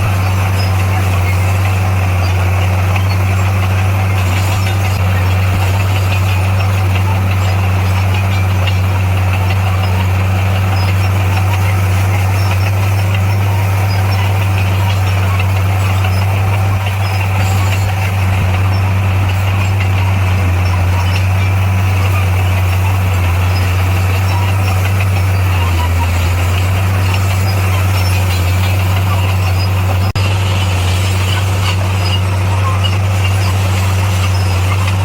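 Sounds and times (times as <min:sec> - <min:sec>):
diesel engine of heavy machinery: 0:00.0 - 0:35.0.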